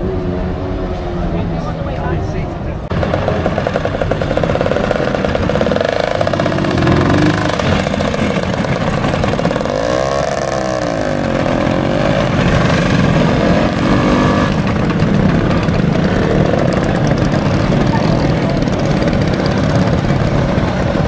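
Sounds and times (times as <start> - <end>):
scooter engines running: 0.0 - 21.0
scooter engine revving: 2.9 - 21.0.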